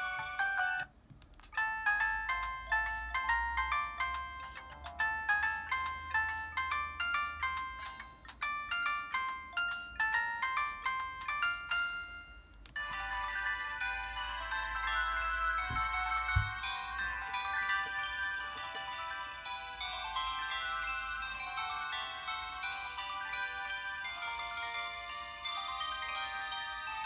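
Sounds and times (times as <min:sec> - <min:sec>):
phone ringtone melody: 0:00.0 - 0:00.9, 0:01.6 - 0:27.0.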